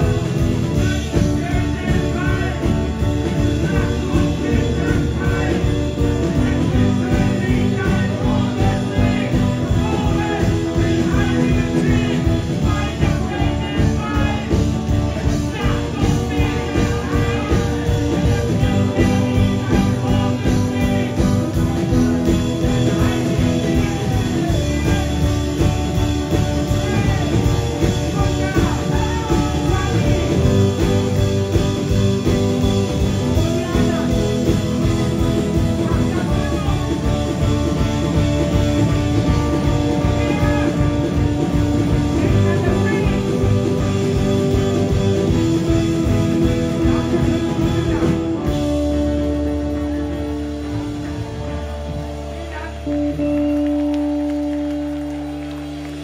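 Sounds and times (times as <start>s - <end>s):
person singing: 0.0s - 55.0s
drums: 0.0s - 56.0s
electric guitar: 0.0s - 56.0s.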